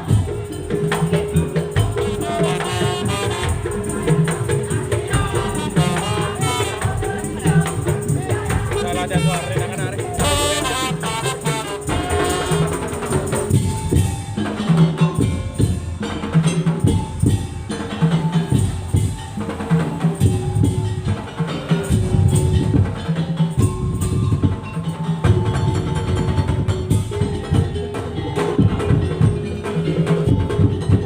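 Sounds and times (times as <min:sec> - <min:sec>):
drums struck in steady rhythm: 0:00.0 - 0:31.0
jingling rattling percussion: 0:00.0 - 0:31.0
wavering melody: 0:00.0 - 0:31.0.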